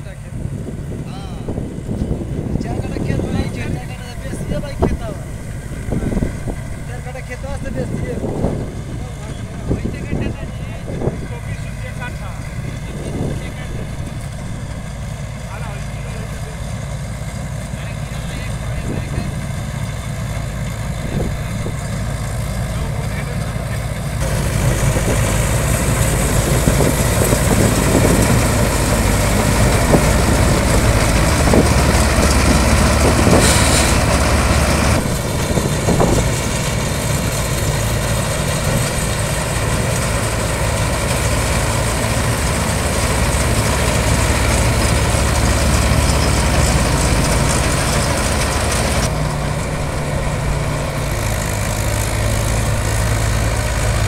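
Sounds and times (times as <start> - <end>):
combine harvester engine drone: 0.0 - 54.0
harvesting machinery whir and rattle: 0.0 - 54.0.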